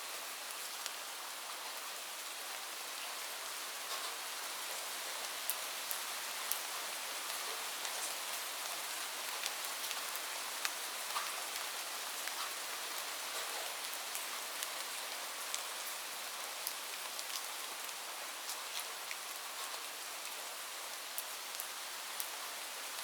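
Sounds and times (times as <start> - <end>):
light rain falling: 0.0 - 23.0.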